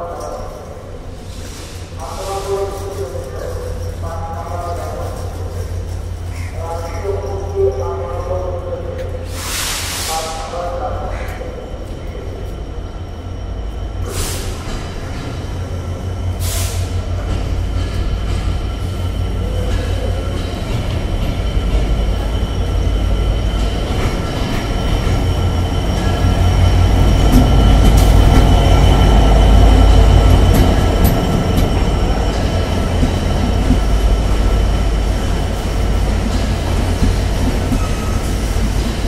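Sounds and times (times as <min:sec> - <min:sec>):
train deep rumble: 0:00.0 - 0:39.0.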